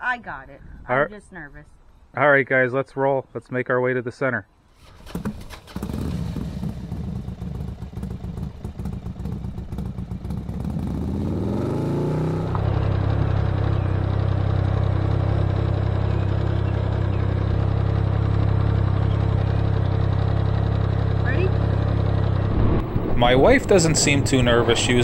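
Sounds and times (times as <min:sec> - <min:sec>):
motorcycle engine revving: 0:04.9 - 0:25.0.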